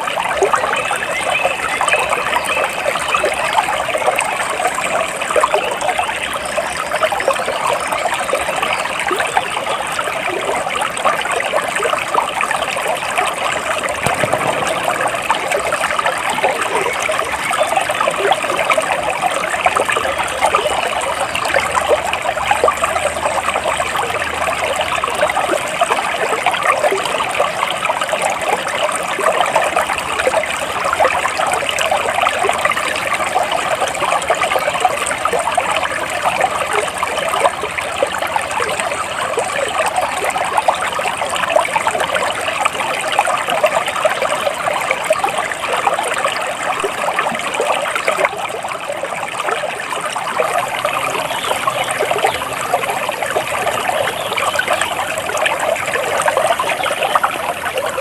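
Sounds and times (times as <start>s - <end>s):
stream water flowing over rocks: 0.0s - 58.0s.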